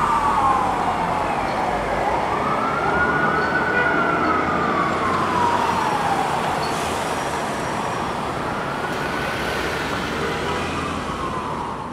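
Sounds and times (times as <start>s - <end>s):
emergency siren wailing: 0.0s - 11.9s
street traffic noise: 0.0s - 11.9s.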